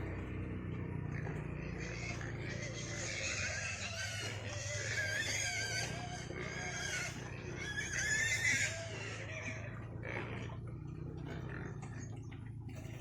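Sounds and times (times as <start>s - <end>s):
pigs squealing: 0.0s - 13.0s.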